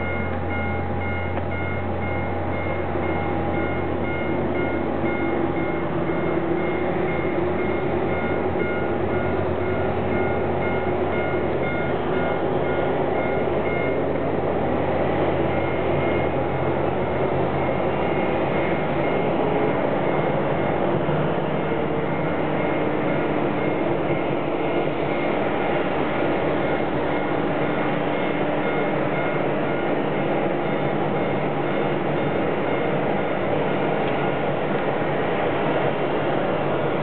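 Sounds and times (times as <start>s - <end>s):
faint beeping: 0.0s - 36.0s
jet engine whine and rumble: 0.0s - 37.0s.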